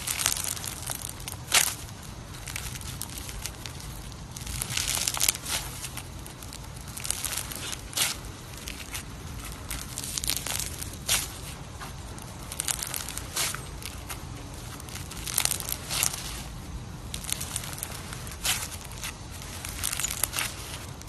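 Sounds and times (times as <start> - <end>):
slime squished by hand: 0.0 - 21.0.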